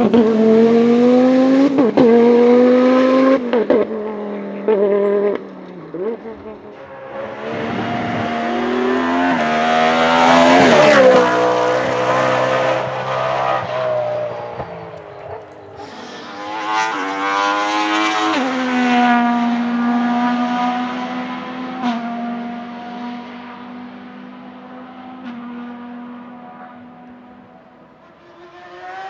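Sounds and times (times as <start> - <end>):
race car engine passing by: 0.0 - 29.0.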